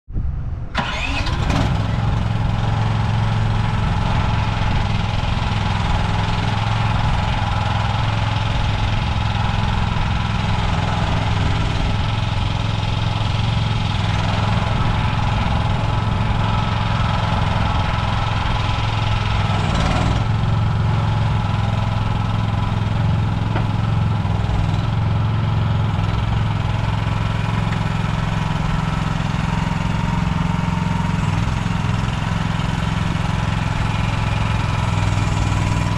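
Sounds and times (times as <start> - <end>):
excavator engine running: 0.6 - 35.9.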